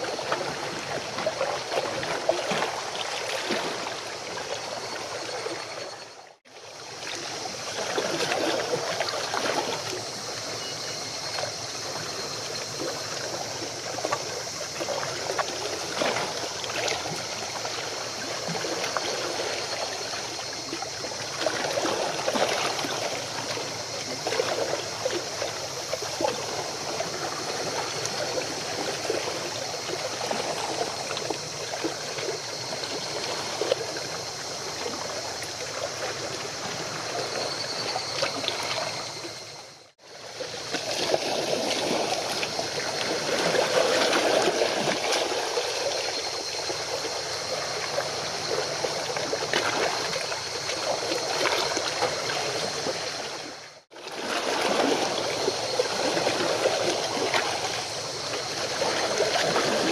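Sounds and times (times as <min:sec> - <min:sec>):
water splashing and lapping: 0:00.0 - 0:59.9.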